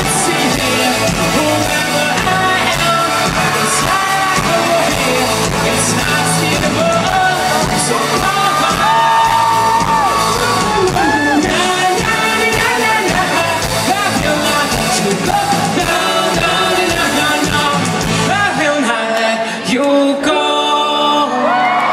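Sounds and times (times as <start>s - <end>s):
live pop-rock band playing: 0.0s - 21.9s.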